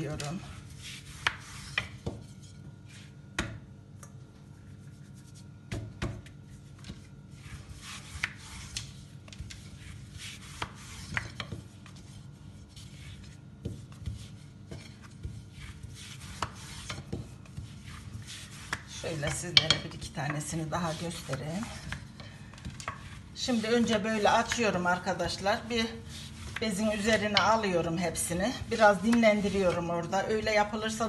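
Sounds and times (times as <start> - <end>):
rolling pin rolling dough on stone: 0.0 - 3.7, 4.4 - 31.0.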